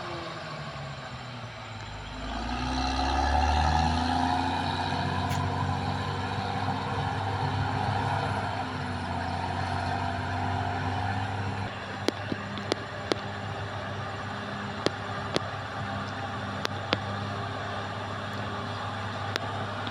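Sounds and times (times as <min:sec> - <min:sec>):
bulldozer diesel engine droning: 0:00.0 - 0:19.9.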